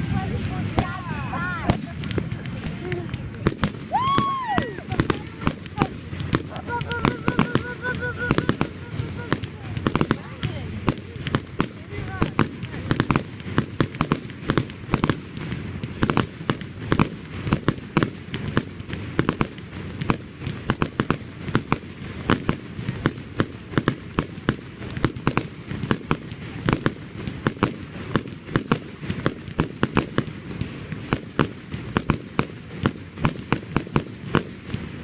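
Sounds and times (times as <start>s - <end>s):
fireworks bangs: 0.0s - 35.0s.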